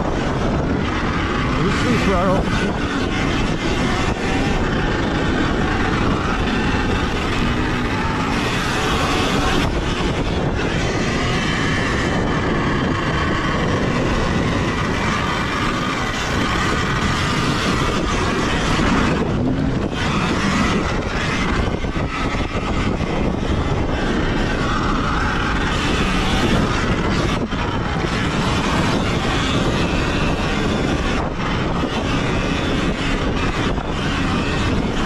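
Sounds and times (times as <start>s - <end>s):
knobby tyres and drivetrain noise: 0.0s - 35.0s
wind rushing over microphone: 0.0s - 35.0s.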